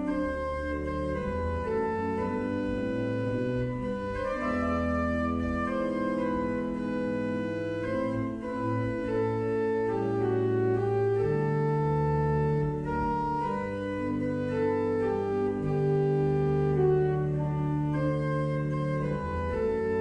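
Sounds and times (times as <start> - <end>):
organ playing sustained chords: 0.0 - 20.0.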